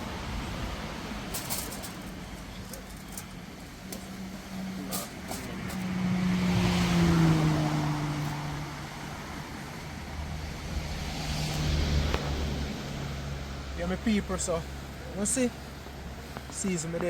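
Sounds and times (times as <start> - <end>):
road noise: 0.0 - 17.0
vehicle engine hum passing: 0.0 - 17.0.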